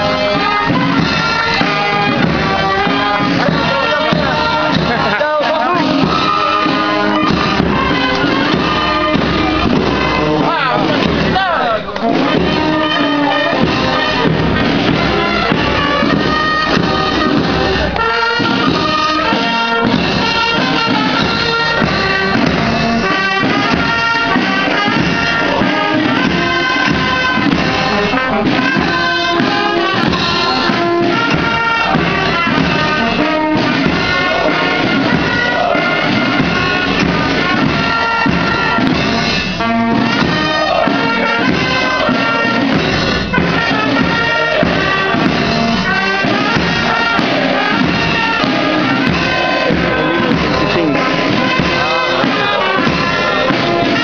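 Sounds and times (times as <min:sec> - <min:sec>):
brass band music: 0:00.0 - 0:54.0.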